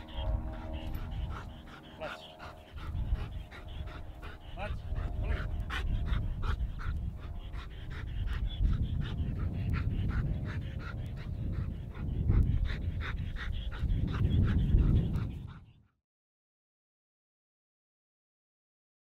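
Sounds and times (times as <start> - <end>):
low rumble: 0.0 - 15.8
dog panting: 0.0 - 15.9.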